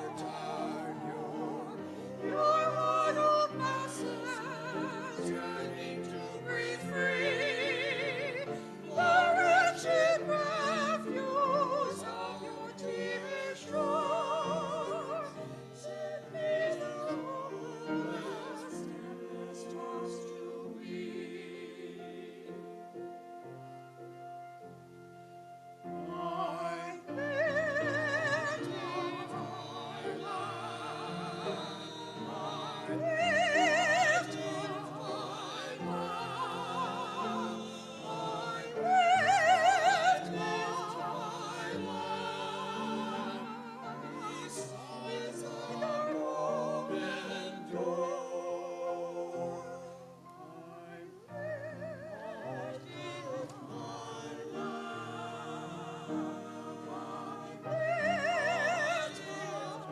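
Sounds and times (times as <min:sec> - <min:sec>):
piano accompaniment: 0:00.0 - 0:59.9
vocal quartet singing: 0:00.0 - 0:59.9.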